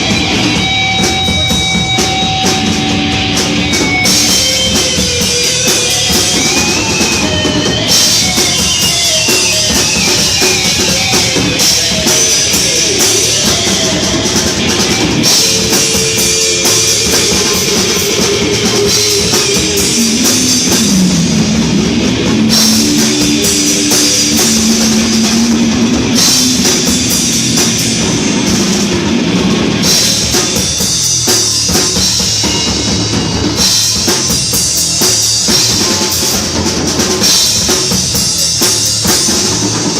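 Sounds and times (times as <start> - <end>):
bass guitar: 0.0 - 39.9
distorted electric guitar: 0.0 - 39.9
fast drum-kit playing: 0.0 - 39.9.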